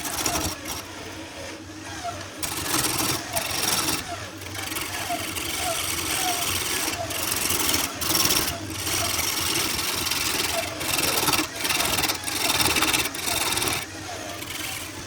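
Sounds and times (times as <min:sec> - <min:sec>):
tool scraping wood: 0:00.0 - 0:01.2, 0:02.4 - 0:15.0.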